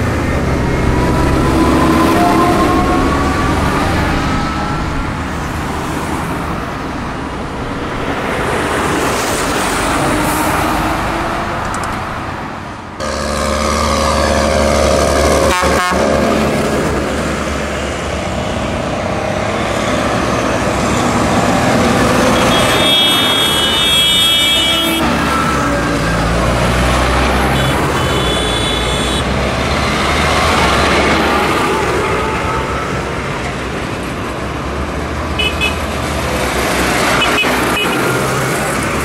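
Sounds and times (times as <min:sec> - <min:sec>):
tractor diesel engines droning: 0:00.0 - 0:39.0
tyre and road noise: 0:00.0 - 0:39.0.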